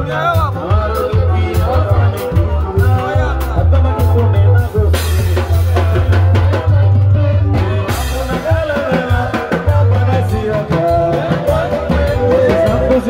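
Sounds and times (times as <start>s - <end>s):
conga drums struck by hand: 0.0s - 13.0s
live band music: 0.0s - 13.0s
loud bass line: 0.0s - 13.0s
man singing into a microphone: 0.0s - 13.0s.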